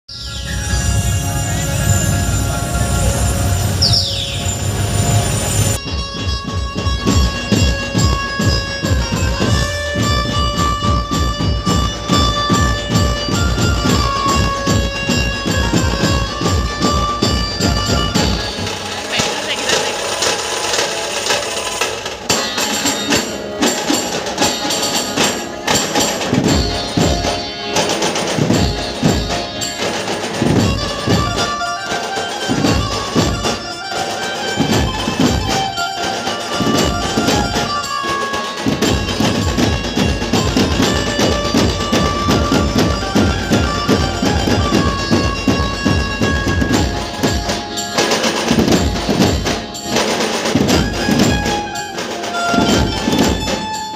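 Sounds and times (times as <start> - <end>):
held melody line: 0.2 - 53.9
rapid dense drumming: 5.7 - 53.9.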